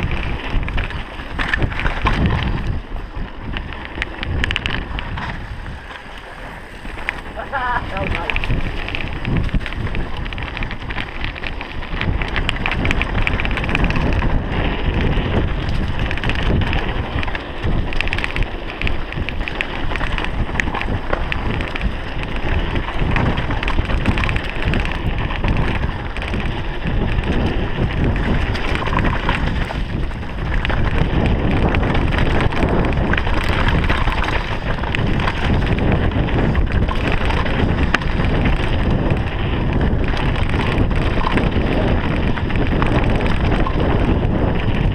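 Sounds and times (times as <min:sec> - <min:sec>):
bike clattering and rattling: 0:00.0 - 0:44.9
tyres running over dirt and rock: 0:00.0 - 0:44.9
wind noise on microphone: 0:00.0 - 0:44.9.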